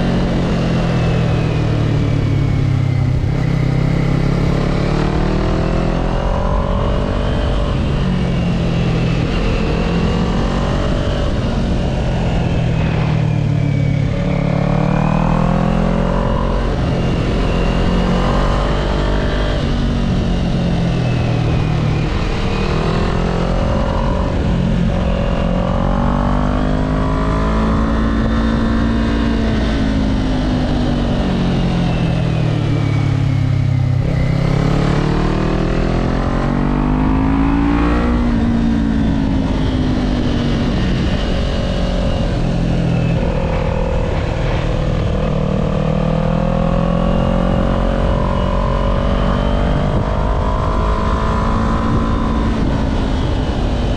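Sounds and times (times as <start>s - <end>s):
motorcycle engine revving: 0.0s - 53.9s
wind rushing on microphone: 0.0s - 53.9s.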